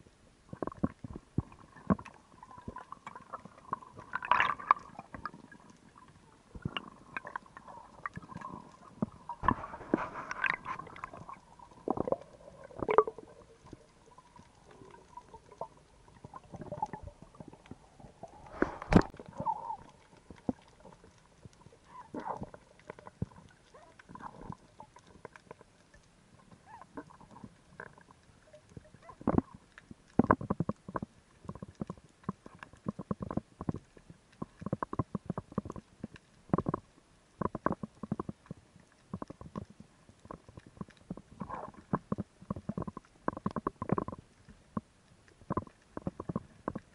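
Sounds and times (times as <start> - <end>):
muffled underwater gurgling: 0.0 - 25.8, 26.4 - 35.9, 39.1 - 46.9
underwater clicks and knocks: 6.5 - 26.0, 28.8 - 46.9.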